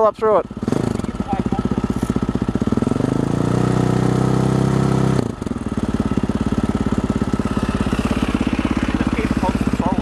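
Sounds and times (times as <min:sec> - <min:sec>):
motorcycle engine idling and revving: 0:00.0 - 0:10.0.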